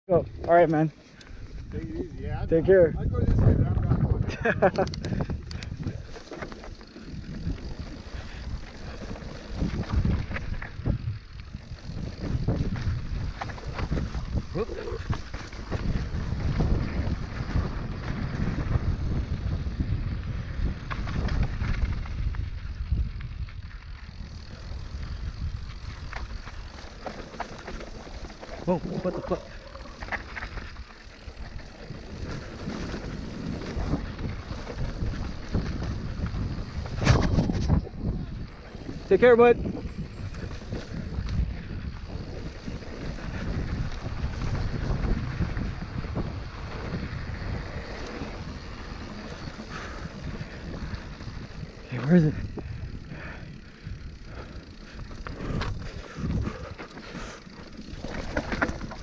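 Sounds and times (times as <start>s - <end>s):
bike tyres rumbling on dirt trail: 0.1s - 59.0s
wind buffeting microphone: 1.2s - 59.0s.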